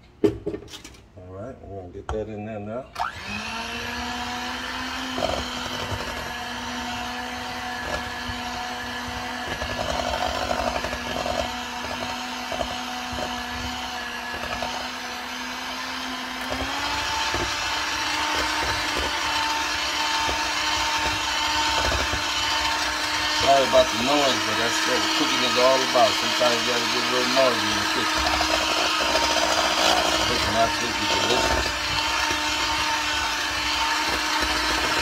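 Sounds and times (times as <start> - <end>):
electric mixer motor whine: 2.9 - 35.0.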